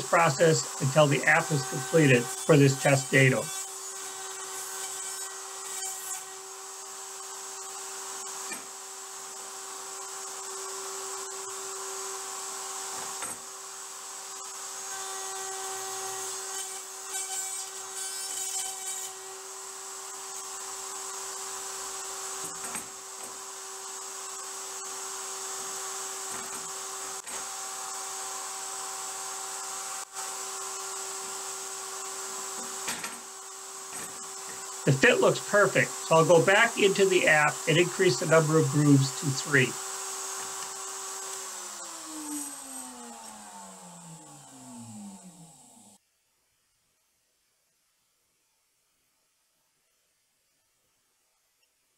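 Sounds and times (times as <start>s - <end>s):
router whining: 0.0s - 46.0s.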